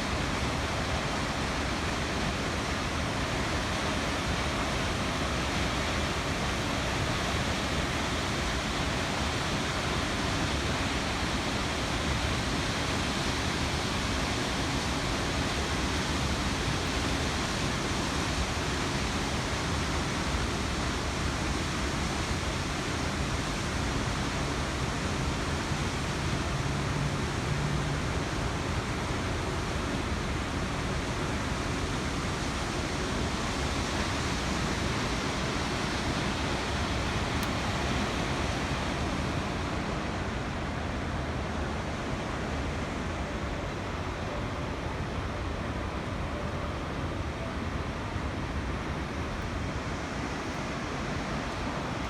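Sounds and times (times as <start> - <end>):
water rushing from dam: 0.0 - 52.0.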